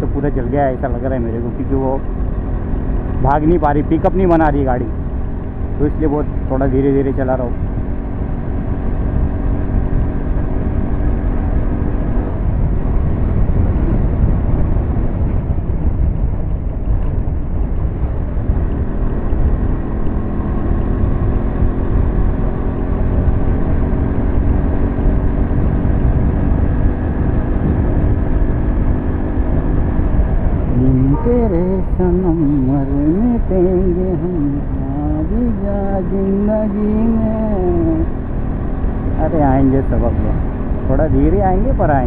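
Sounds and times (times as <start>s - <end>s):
motorcycle engine running: 0.0s - 42.0s
wind rush on microphone: 0.0s - 42.0s.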